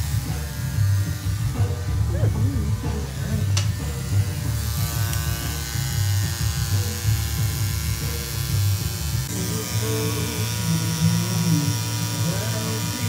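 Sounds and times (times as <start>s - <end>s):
tattoo machine buzzing: 0.0s - 13.0s.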